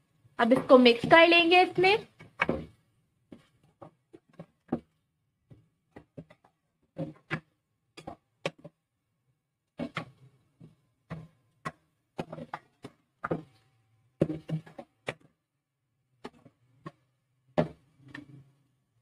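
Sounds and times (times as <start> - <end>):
food stirred in pot: 0.2 - 8.9, 9.6 - 18.9.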